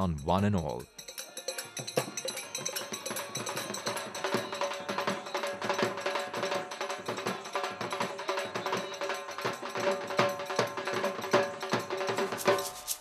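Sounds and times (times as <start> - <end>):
clacking hand percussion: 0.0 - 13.0.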